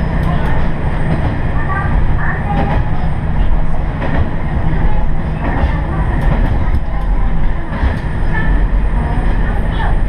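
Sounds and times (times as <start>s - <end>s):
railcar engine and wheels rumble: 0.0s - 10.0s.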